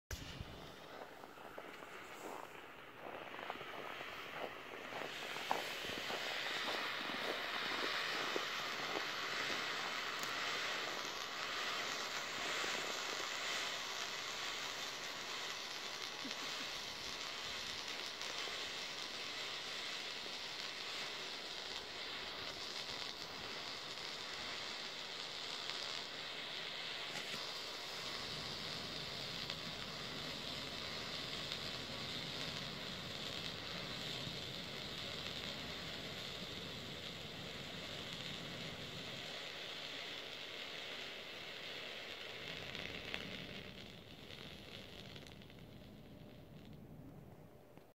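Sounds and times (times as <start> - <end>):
smoke canister hissing: 0.0 - 47.9.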